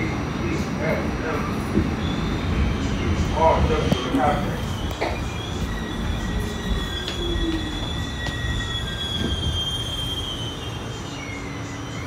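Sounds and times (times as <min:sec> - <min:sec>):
subway train rumbling on rails: 0:00.0 - 0:12.0
high wheel squeal: 0:01.2 - 0:12.0.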